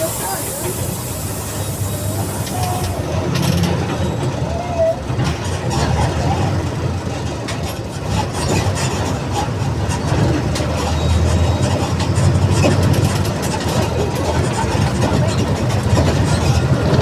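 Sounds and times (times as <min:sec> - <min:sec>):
bus diesel engine rumbling: 0:00.0 - 0:17.0.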